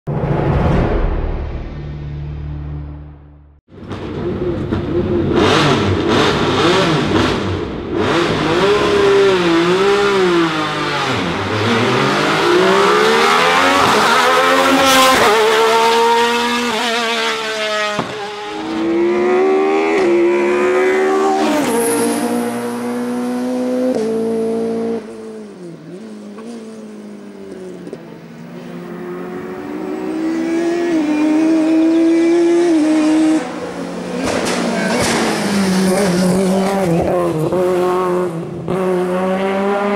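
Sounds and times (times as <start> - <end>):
race car accelerating through gears: 3.8 - 25.4, 28.7 - 39.9.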